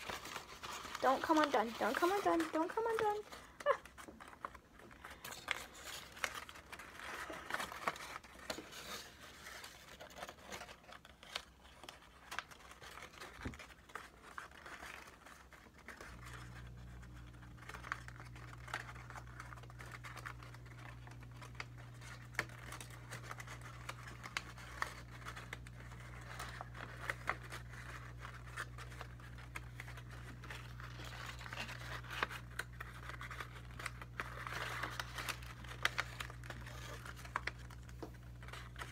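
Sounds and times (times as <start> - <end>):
paper crinkling and rustling: 0.0 - 38.9.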